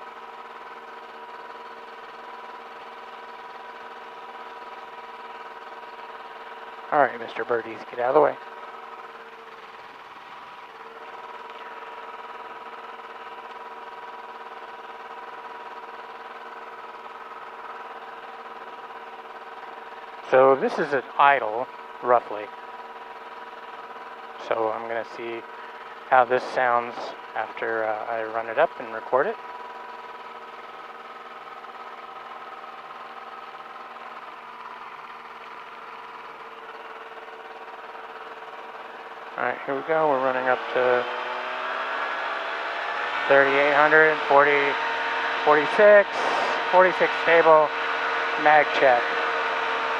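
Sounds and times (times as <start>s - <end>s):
aircraft engine idling: 0.0s - 41.0s, 43.3s - 49.9s.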